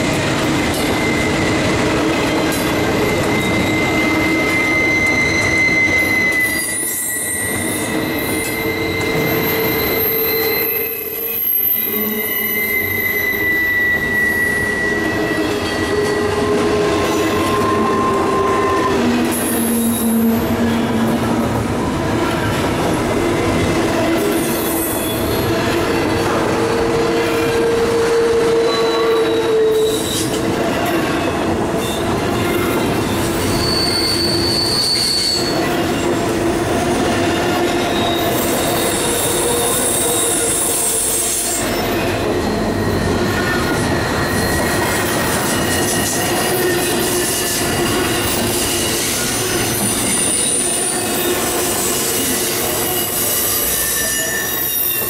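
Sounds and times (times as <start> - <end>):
steel wheels rumbling on rail: 0.0 - 55.0
train wheel squeals: 0.0 - 55.0.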